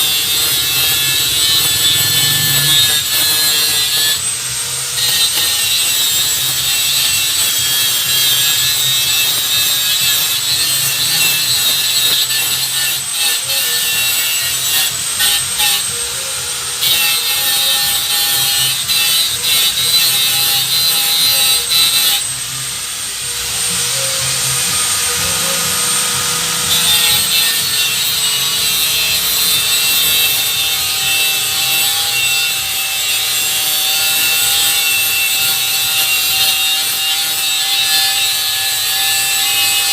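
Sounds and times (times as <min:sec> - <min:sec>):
power tool cutting with high whine: 0:00.0 - 0:39.9.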